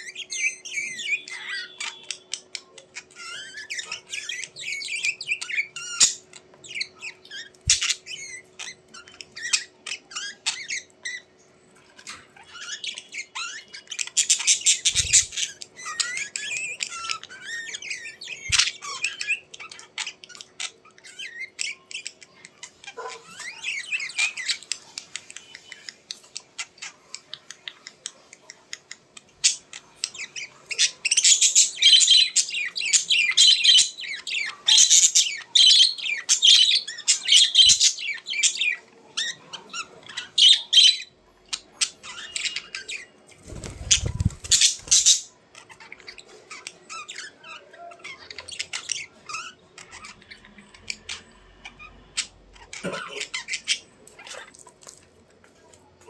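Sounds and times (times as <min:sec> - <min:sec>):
birds squawking and chirping: 0:00.0 - 0:56.0.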